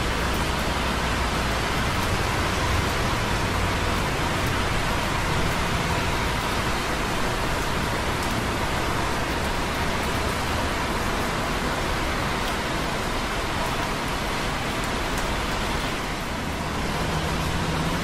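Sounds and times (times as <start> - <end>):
light rain: 0.0 - 18.0
rain dripping on concrete: 0.0 - 18.0
traffic on wet roads: 0.0 - 18.0.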